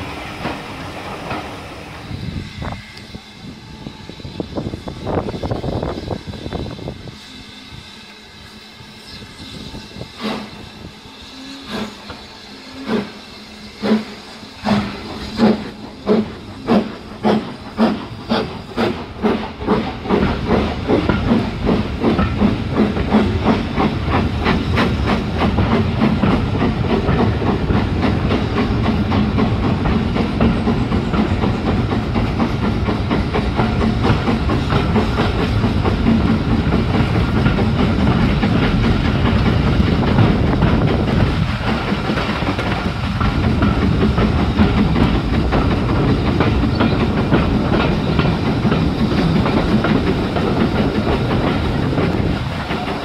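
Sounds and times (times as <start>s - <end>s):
rail noise: 0.0s - 53.0s
steam locomotive exhaust chuffs: 0.0s - 53.0s.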